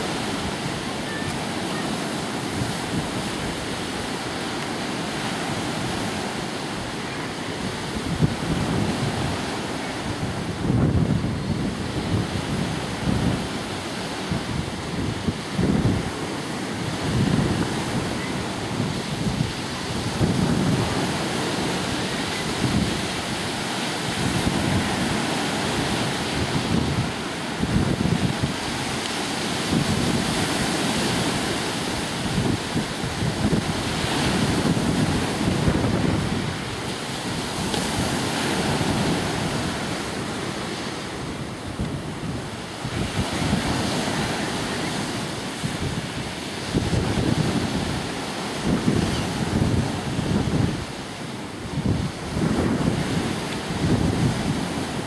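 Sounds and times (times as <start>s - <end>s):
lake waves breaking: 0.0s - 55.0s
wind buffeting microphone: 0.0s - 55.0s.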